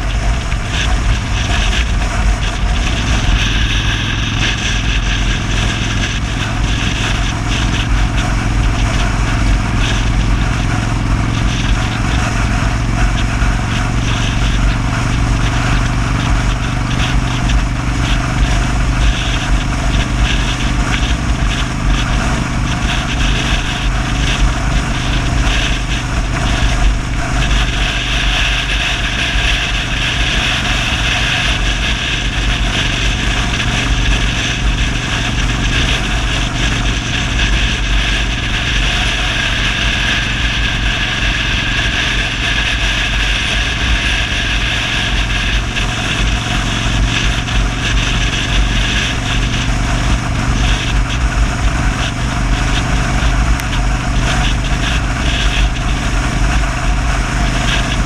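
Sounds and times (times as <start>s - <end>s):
motorcycle engine running: 0.0s - 58.0s
wind rushing on microphone: 0.0s - 58.0s.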